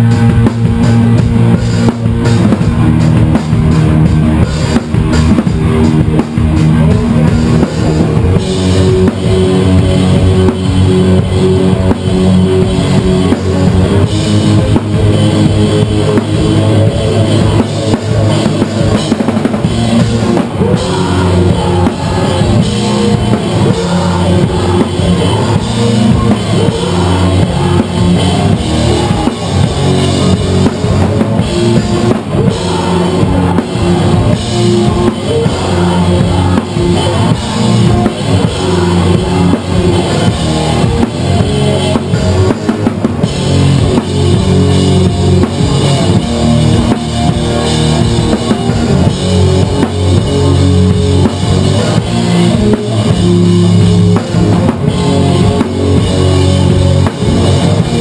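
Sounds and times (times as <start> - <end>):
drum kit: 0.0 - 58.0
electric guitars and bass: 0.0 - 58.0.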